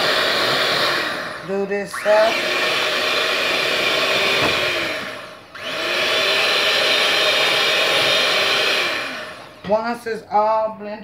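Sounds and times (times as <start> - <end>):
electric hand mixer whirring: 0.0 - 10.2.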